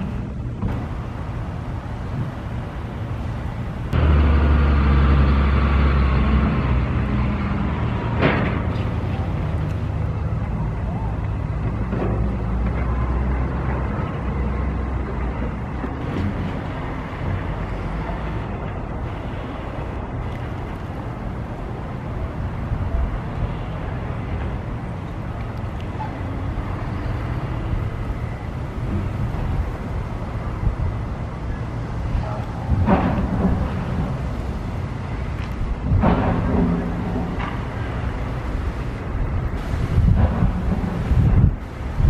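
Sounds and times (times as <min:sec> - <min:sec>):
construction site noise: 0:00.0 - 0:42.0
demolition machinery engine rumble: 0:00.0 - 0:42.0.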